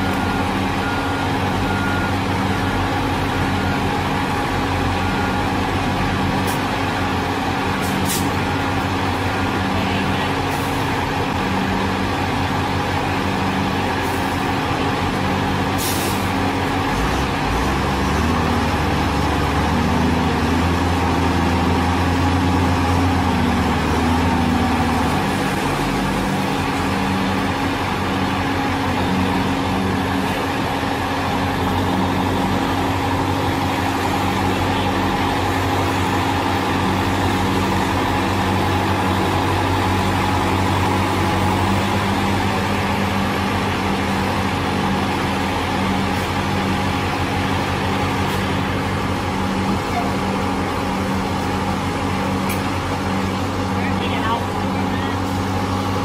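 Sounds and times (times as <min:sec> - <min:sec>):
heavy machinery engines rumbling: 0:00.0 - 0:56.0.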